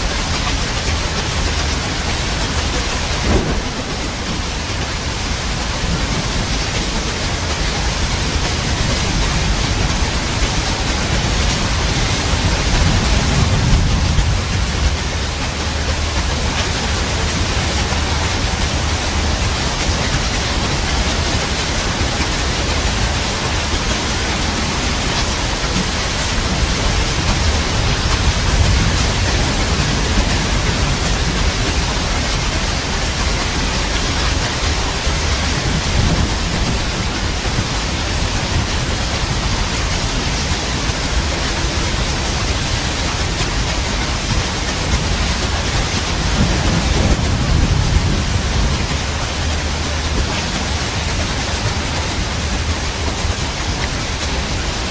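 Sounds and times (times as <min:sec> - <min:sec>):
heavy rain: 0:00.0 - 0:54.9
low thunder rolls: 0:00.9 - 0:53.4.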